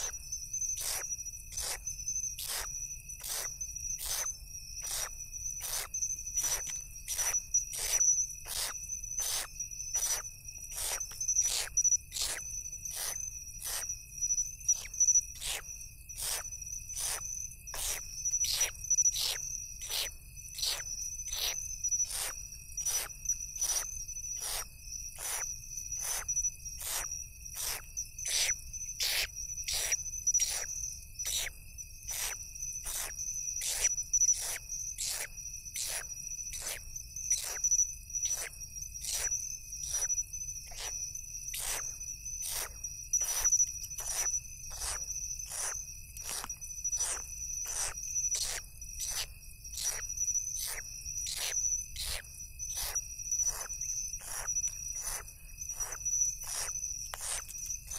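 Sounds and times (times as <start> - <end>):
high-pitched insect trilling: 0.0 - 57.9.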